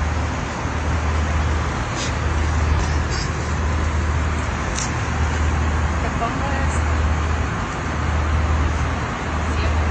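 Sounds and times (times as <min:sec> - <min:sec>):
airliner cabin drone: 0:00.0 - 0:09.9.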